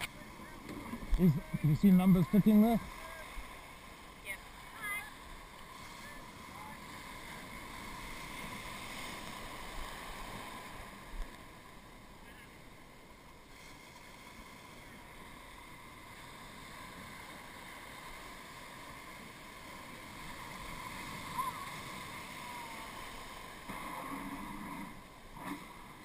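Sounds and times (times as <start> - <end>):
shallow surf washing: 0.0 - 26.0.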